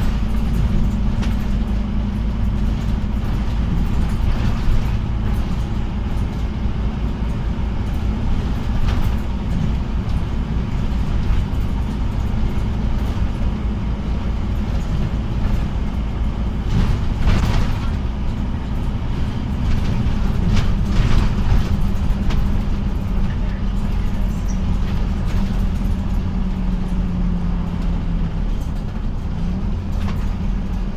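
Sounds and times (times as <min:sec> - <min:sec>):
body rattles and knocks: 0:00.0 - 0:30.9
bus engine and road rumble: 0:00.0 - 0:30.9.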